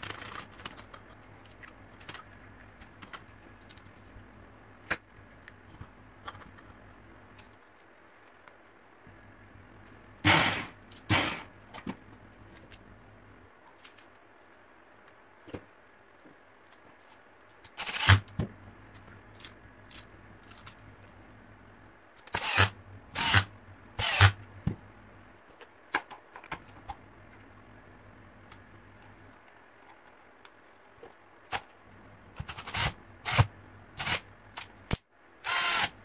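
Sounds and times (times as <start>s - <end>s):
faint low hum: 0.0s - 36.0s.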